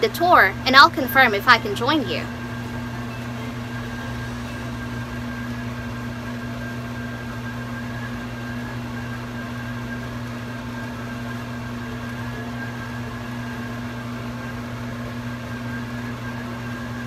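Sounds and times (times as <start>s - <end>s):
high whine: 0.0s - 17.0s
low droning hum: 0.0s - 17.0s.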